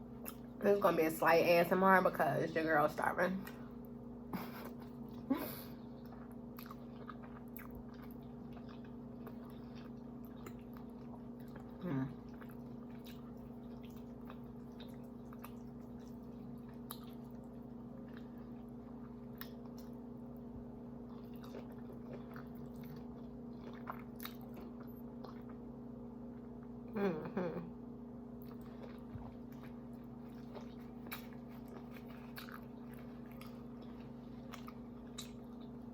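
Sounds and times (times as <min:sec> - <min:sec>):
background hum: 0:00.0 - 0:35.9
person chewing food: 0:03.5 - 0:26.7, 0:28.4 - 0:35.9.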